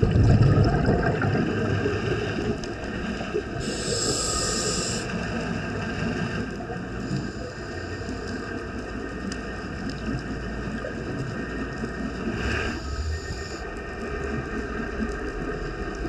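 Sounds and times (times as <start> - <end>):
muffled underwater rumble and hiss: 0.0 - 16.0
underwater rush: 0.0 - 16.0.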